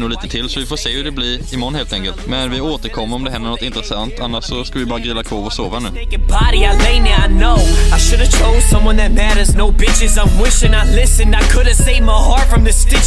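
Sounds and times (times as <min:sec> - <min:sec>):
rapping over a beat: 0:00.0 - 0:13.0.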